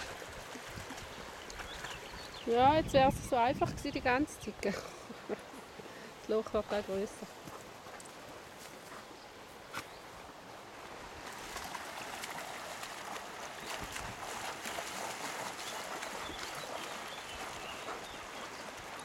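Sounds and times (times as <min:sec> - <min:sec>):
stony stream flowing: 0:00.0 - 0:19.0.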